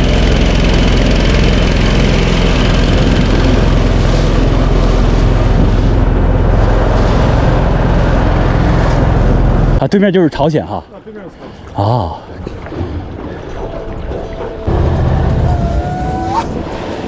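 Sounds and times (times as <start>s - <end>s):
outboard motor running: 0.0s - 9.8s, 12.4s - 17.0s
steady rushing noise: 0.0s - 9.8s, 12.7s - 17.0s.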